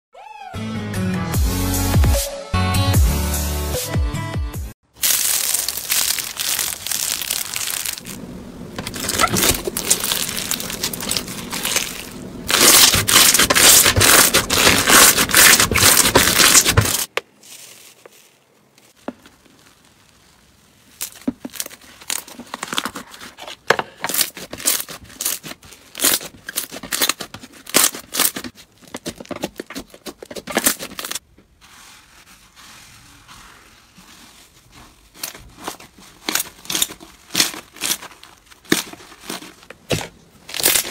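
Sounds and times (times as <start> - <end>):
slime crackling and crunching: 4.9 - 40.9.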